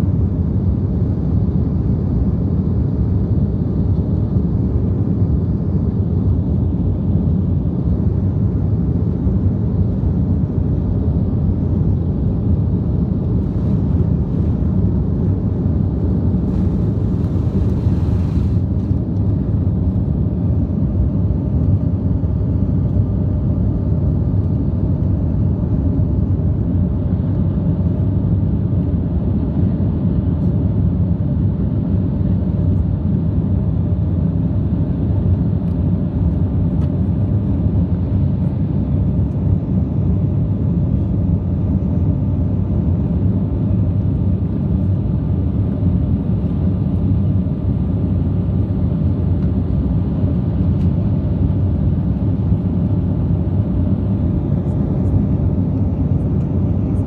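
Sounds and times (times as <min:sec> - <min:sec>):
jet engines low rumble: 0:00.0 - 0:57.0.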